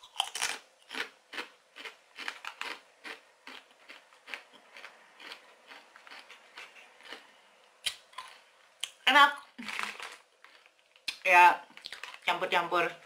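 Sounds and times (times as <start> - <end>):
person chewing crunchy chips: 0.0 - 12.3.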